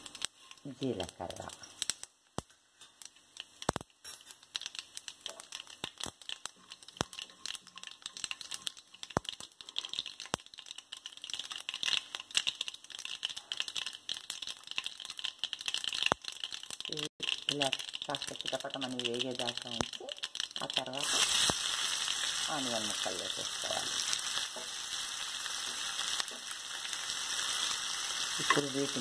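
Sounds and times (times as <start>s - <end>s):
seeds spluttering in hot oil: 0.0s - 29.0s.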